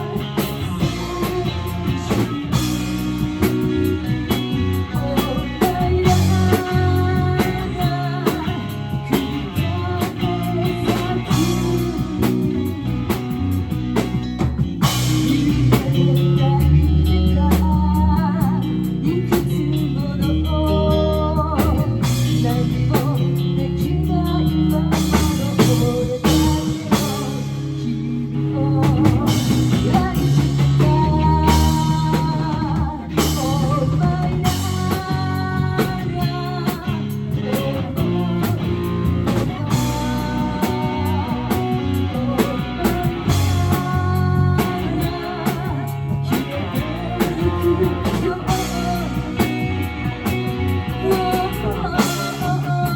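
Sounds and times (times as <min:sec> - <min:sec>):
bass guitar: 0:00.0 - 0:52.9
drum kit: 0:00.0 - 0:52.9
electric guitar: 0:00.0 - 0:52.9
person singing: 0:00.0 - 0:52.9.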